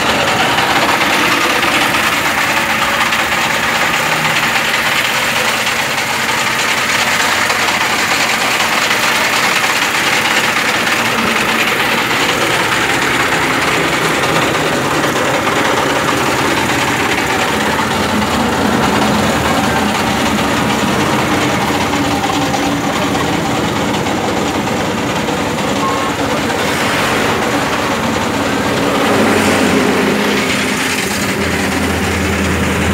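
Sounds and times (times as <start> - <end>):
road marking machine engine hissing: 0.0 - 32.9.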